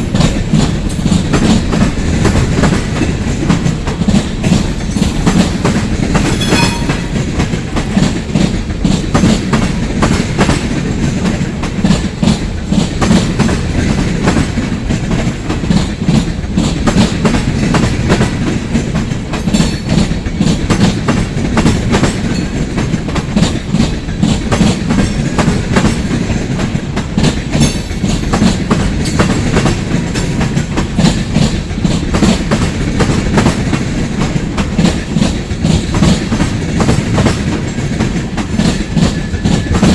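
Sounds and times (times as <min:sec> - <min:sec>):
train rumble: 0:00.0 - 0:39.9
train wheels clacking over rail joints: 0:00.0 - 0:39.9.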